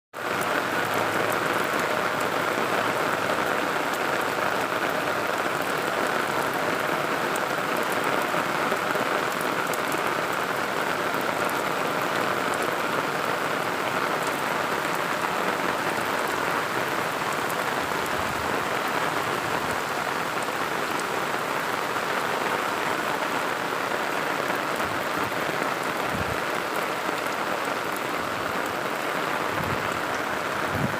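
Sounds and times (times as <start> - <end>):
heavy rain falling: 0.2 - 30.9.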